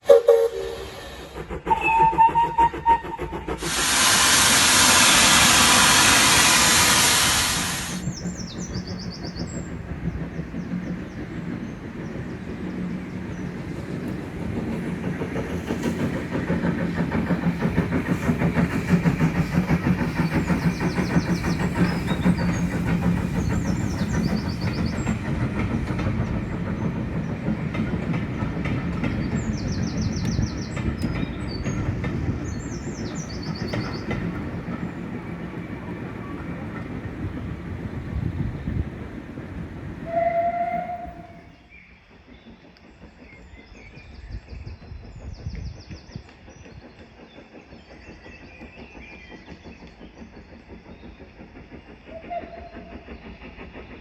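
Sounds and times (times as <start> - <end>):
train rhythmic clatter: 0.0 - 54.0
loud hiss of steam: 0.1 - 54.0.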